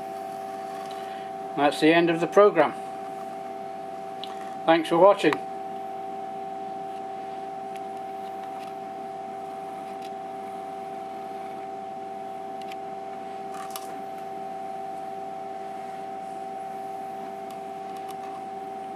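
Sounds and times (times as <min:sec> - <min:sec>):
lathe running with whine: 0:00.0 - 0:18.9.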